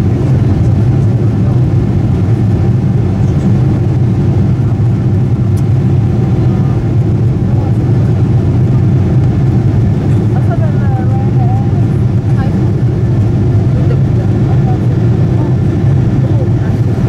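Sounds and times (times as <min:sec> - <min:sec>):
jet engine drone: 0:00.0 - 0:17.0
rushing airflow: 0:00.0 - 0:17.0.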